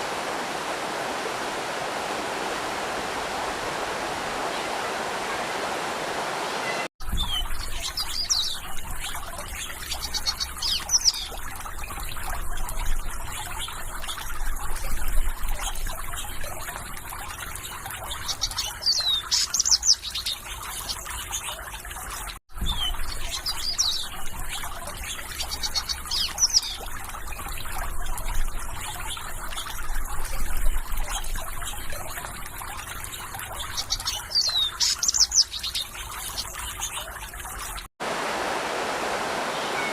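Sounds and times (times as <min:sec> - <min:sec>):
rushing water: 0:00.0 - 0:39.9
trickling water: 0:00.0 - 0:39.9.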